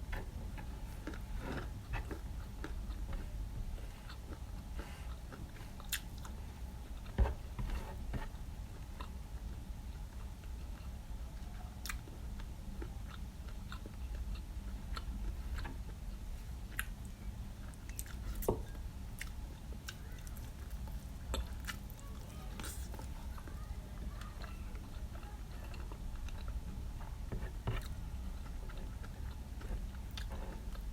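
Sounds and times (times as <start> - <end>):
chewing food: 0.1 - 30.9.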